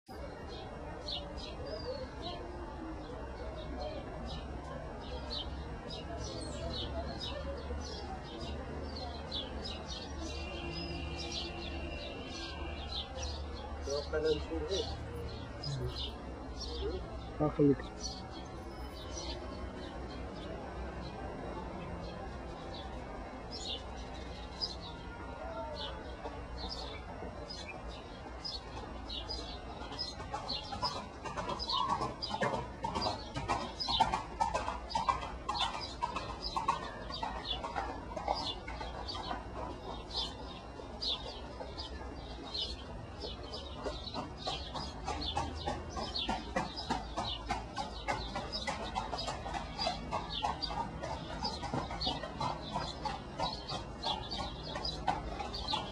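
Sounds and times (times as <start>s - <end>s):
birds chirping: 0.1s - 55.9s.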